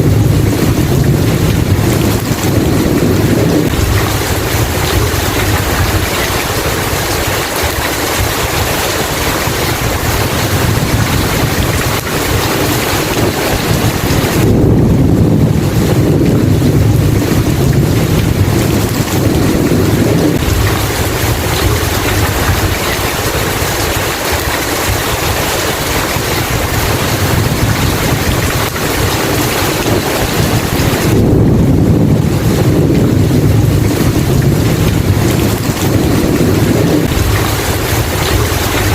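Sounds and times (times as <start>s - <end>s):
heavy rain hiss: 0.0s - 38.9s
rolling thunder: 0.0s - 38.9s.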